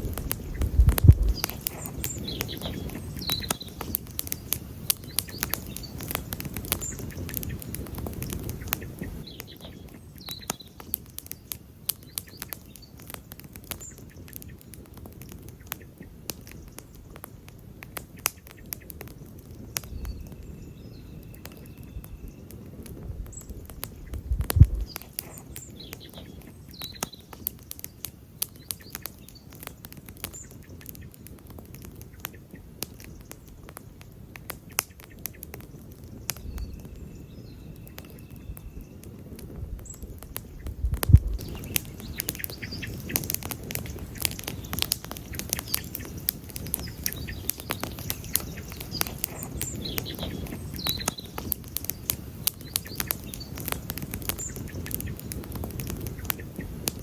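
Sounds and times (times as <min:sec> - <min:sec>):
campfire crackling and popping: 0:00.0 - 0:57.0
low rush of flames: 0:00.0 - 0:57.0.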